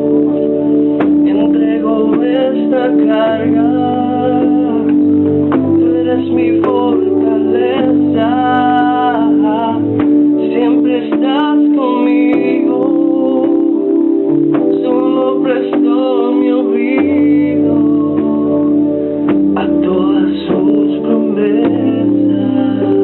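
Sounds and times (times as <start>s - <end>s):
person singing worship song: 0.0s - 23.0s
sustained instrumental chords: 0.0s - 23.0s.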